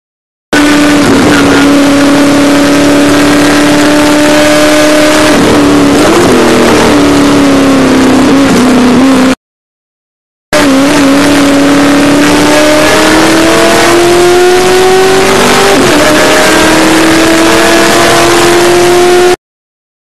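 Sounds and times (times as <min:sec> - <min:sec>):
race car engine accelerating: 0:00.6 - 0:09.4, 0:10.6 - 0:19.4.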